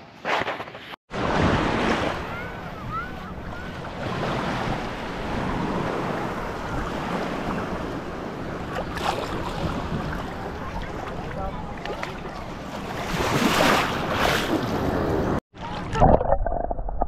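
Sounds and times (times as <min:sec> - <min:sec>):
ocean surf: 0:01.1 - 0:15.4.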